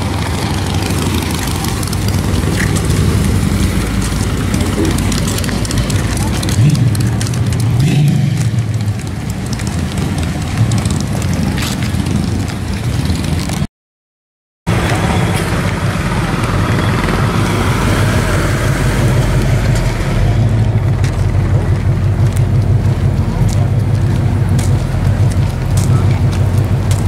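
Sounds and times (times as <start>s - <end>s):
engine low steady rumble: 0.0s - 13.6s, 14.7s - 27.0s.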